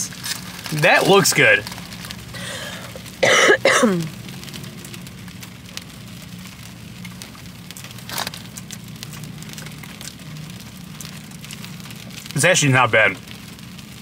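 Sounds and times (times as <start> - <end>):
rain ticking on car roof: 0.0 - 14.0.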